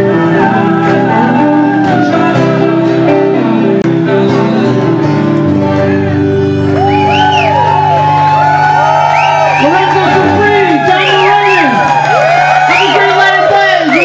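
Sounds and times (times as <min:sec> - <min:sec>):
strummed guitars: 0:00.0 - 0:14.0.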